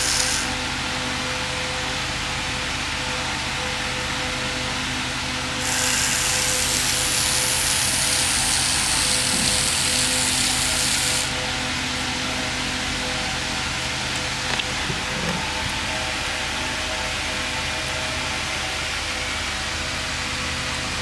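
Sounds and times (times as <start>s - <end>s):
power tool running: 0.0s - 21.0s
steady background hum: 0.0s - 21.0s.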